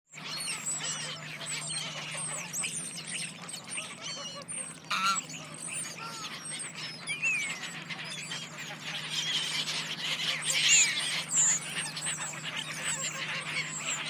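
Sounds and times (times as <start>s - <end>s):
ducks calling: 0.2s - 14.0s
steady low hum: 0.2s - 14.0s.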